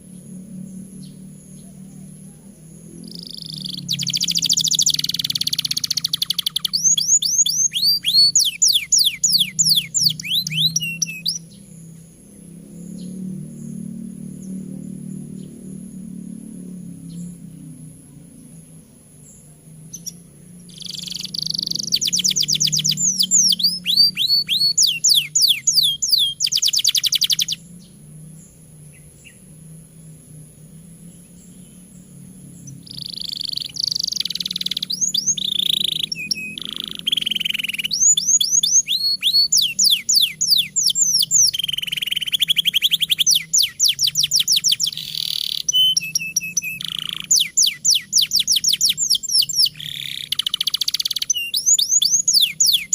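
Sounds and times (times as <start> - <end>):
canary singing trills: 0.0 - 52.9
faint low hum: 0.0 - 52.9.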